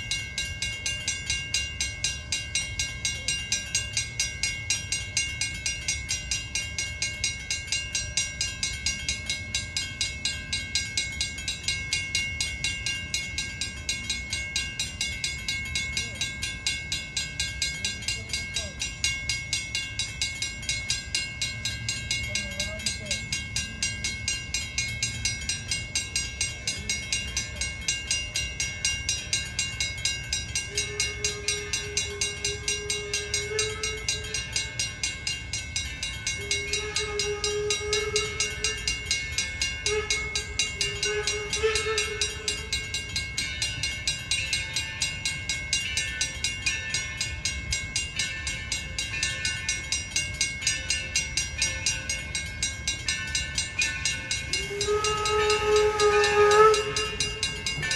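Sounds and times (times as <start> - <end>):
steam train clattering: 0.0 - 57.9
wavering tone: 0.0 - 57.9.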